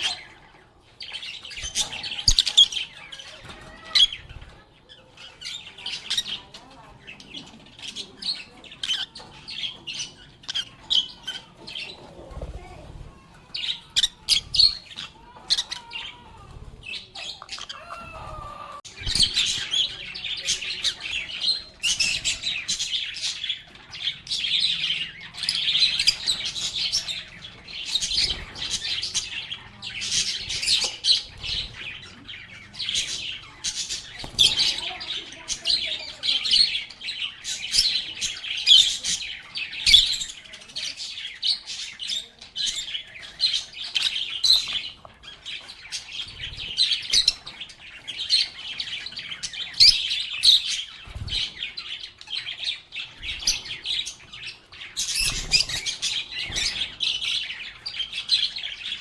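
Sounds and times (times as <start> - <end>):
birds chirping and chattering: 0.0 - 59.0.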